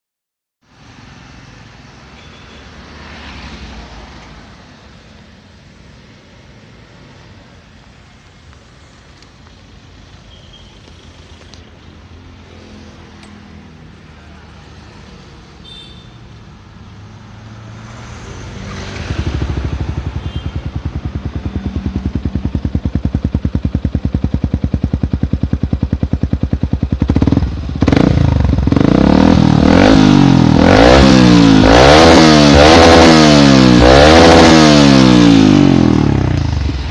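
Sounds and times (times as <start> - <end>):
motorcycle idling and revving: 0.8 - 36.9.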